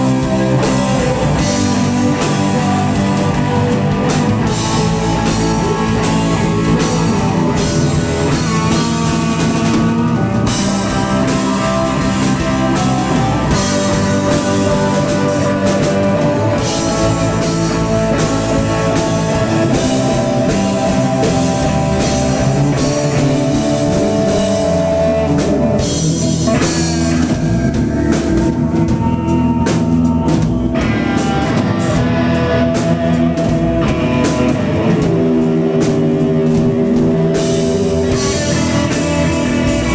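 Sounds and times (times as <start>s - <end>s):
drum kit beat: 0.0s - 39.9s
electric bass: 0.0s - 39.9s
electric guitar: 0.0s - 39.9s
keyboards: 0.0s - 39.9s.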